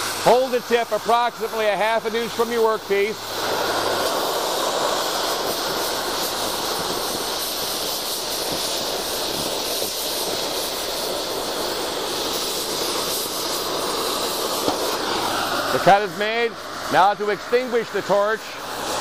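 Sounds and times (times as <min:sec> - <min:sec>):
cutting torch hissing: 0:00.0 - 0:19.0.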